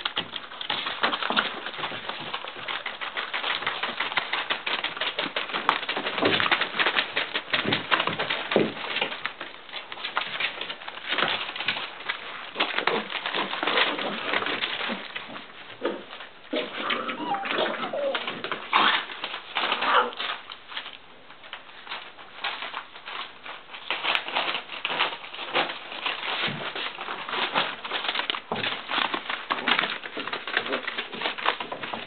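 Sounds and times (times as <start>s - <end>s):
newspaper rustling and crinkling: 0.0s - 32.0s
puppy claws skittering: 0.0s - 32.0s.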